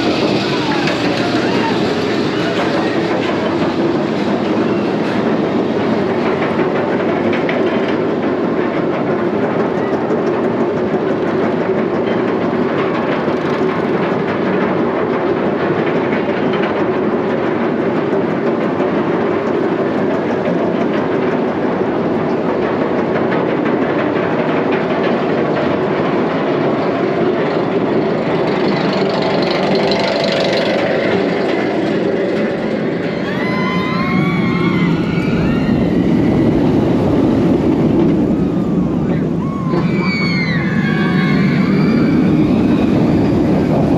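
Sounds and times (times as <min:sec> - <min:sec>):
roller coaster rattling on track: 0:00.0 - 0:43.9.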